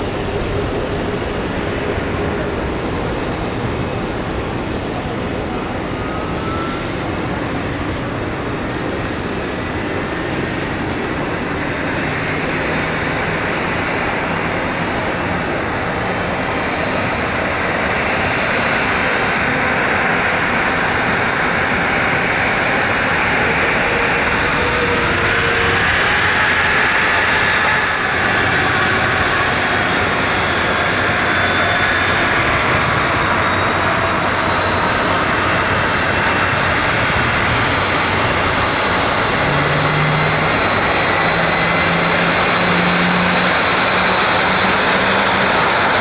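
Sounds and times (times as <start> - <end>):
jet engines with high whine: 0.0 - 46.0.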